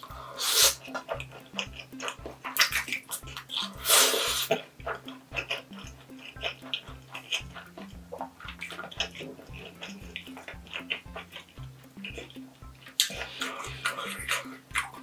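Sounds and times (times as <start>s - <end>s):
background music with low beat: 0.0s - 15.0s
wet chewing clicks: 0.4s - 15.0s.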